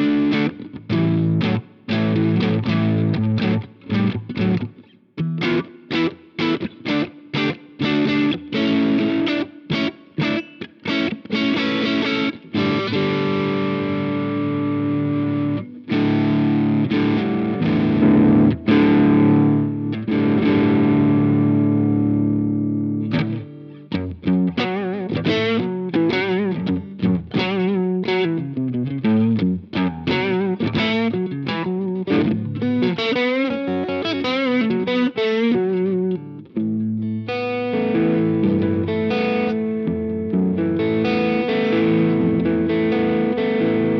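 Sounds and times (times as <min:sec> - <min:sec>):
distorted electric guitar: 0:00.0 - 0:43.9.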